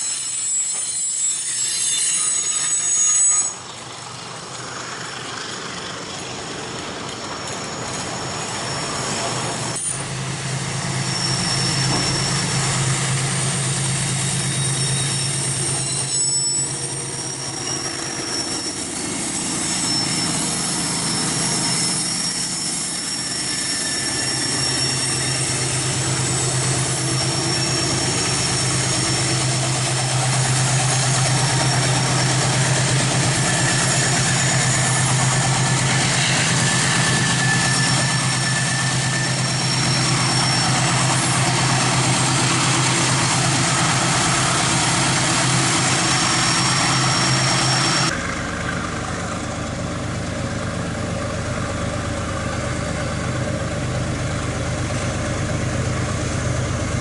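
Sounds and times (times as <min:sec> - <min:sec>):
diesel locomotive engine humming: 0:02.8 - 0:57.0.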